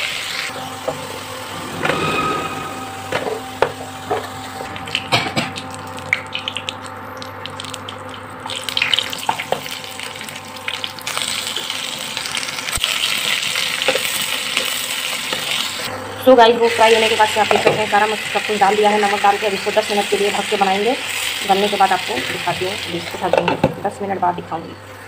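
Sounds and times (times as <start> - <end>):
hot oil sizzling: 0.0 - 15.9, 16.7 - 24.0.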